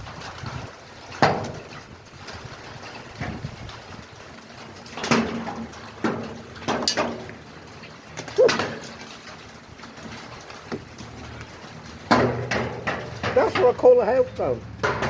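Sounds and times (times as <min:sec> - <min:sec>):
hailstones knocking on roof: 0:00.0 - 0:15.0.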